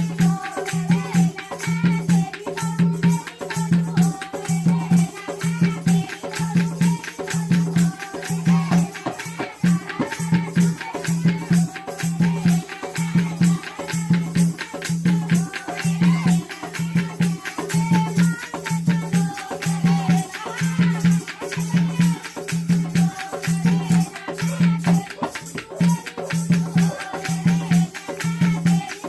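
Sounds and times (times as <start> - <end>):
jingling rattle percussion: 0.0 - 29.0.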